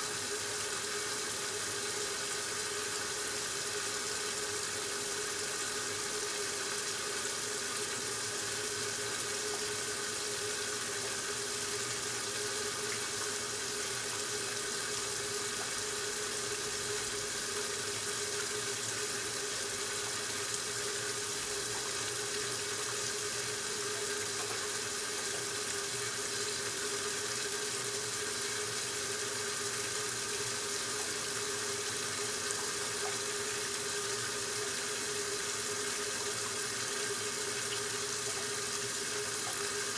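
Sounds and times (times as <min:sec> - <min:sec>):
washing machine hum: 0:00.0 - 0:39.9
water rushing into tub: 0:04.6 - 0:39.9.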